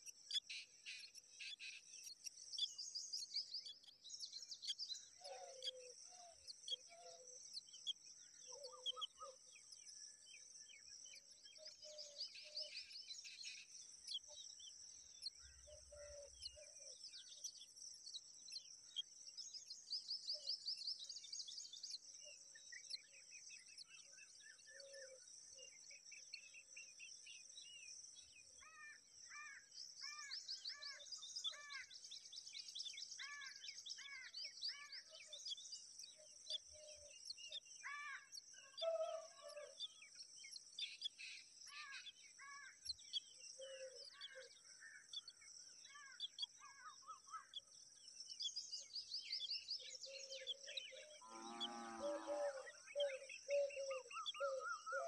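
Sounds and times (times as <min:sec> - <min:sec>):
faint birdsong chirps: 0:00.0 - 0:55.0.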